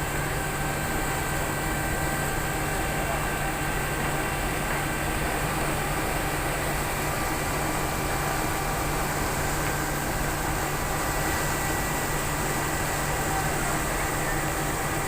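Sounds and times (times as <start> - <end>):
faint steady whines: 0.0 - 15.0
ship machinery hum: 0.0 - 15.0.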